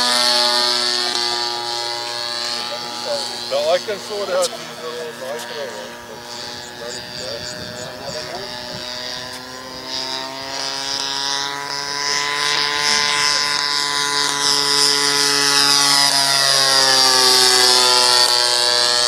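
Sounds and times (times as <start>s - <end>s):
model airplane engine: 0.0s - 19.0s.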